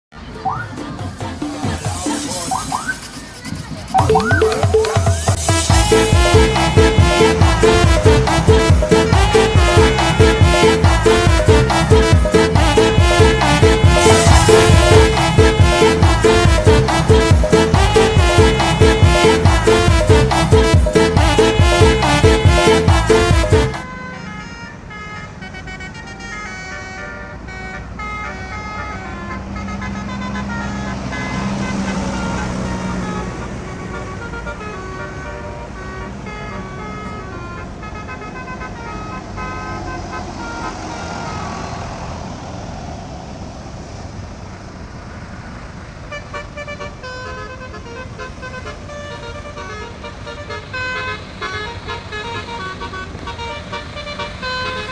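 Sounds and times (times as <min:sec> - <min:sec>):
bus engines: 0:00.0 - 0:54.9
multi-tone bus horns playing tunes: 0:00.1 - 0:42.4, 0:45.0 - 0:54.9.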